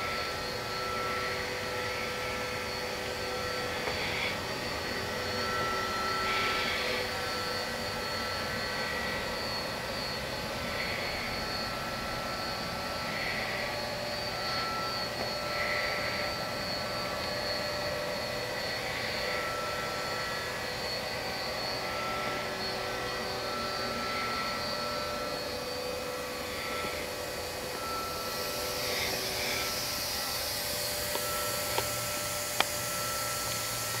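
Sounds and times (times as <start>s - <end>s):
machining center mechanical whir: 0.0s - 34.0s.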